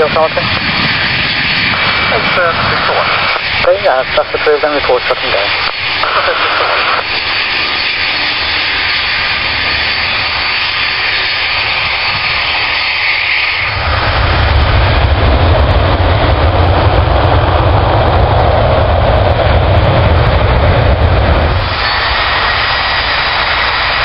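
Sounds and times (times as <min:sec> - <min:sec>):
deep engine rumble: 0:00.0 - 0:24.0
jet engines whining: 0:00.0 - 0:24.0.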